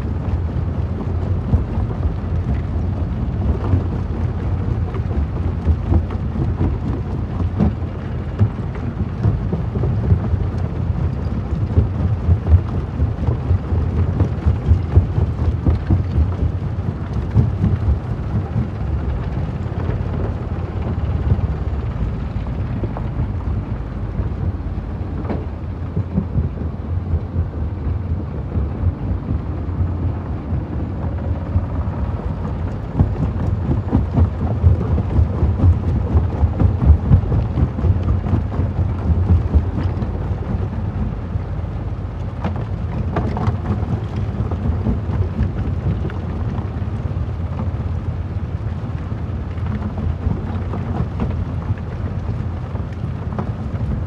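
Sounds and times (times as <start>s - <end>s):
crusher rumbling: 0.0s - 54.0s.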